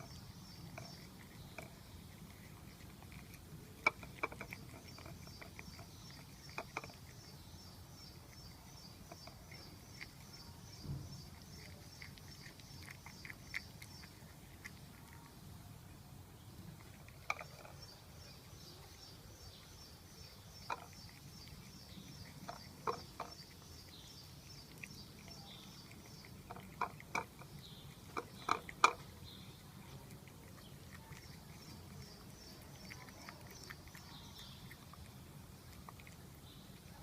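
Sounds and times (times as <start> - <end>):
cat chewing and licking: 0.0 - 37.0.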